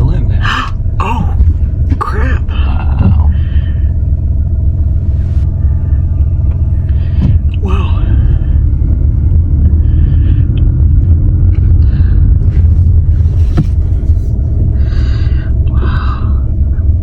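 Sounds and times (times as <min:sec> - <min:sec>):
loud low rumble: 0:00.0 - 0:17.0.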